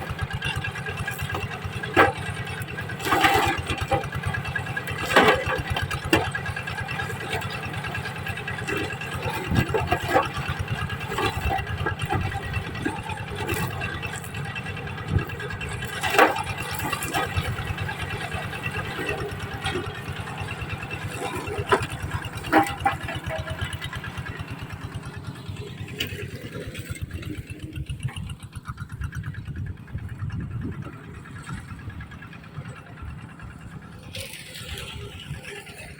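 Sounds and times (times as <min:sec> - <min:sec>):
machine engine running: 0:00.0 - 0:35.9.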